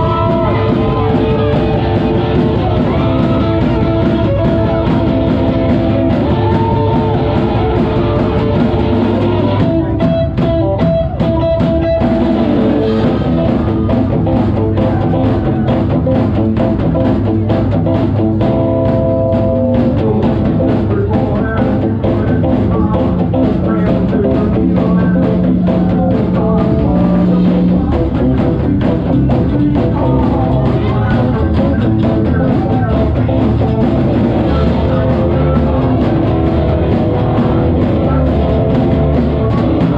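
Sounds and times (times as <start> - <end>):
drum beat: 0.0 - 39.9
live rock band: 0.0 - 39.9.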